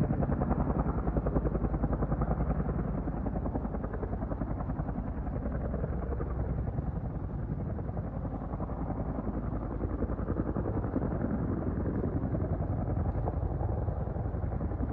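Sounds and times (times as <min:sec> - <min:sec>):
helicopter rotors beating: 0:00.0 - 0:14.9.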